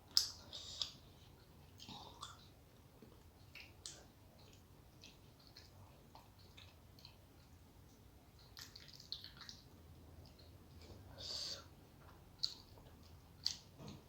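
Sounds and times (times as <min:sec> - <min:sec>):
person chewing food: 0:00.1 - 0:11.0, 0:12.0 - 0:14.0.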